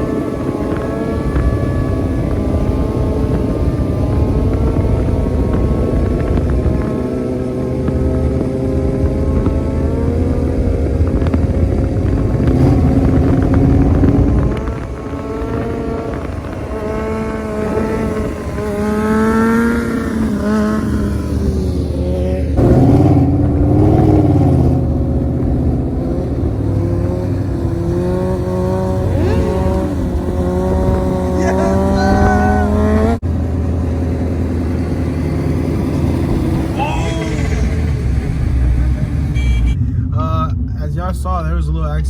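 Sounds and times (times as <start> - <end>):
car and motorcycle engines revving: 0.0 - 42.0.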